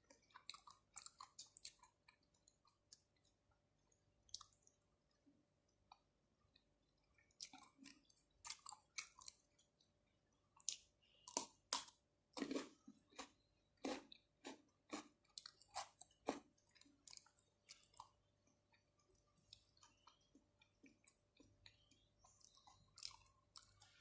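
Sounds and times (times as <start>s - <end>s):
wet chewing and mouth smacks: 0.1s - 3.3s, 4.2s - 4.8s, 5.9s - 9.7s, 10.6s - 24.0s.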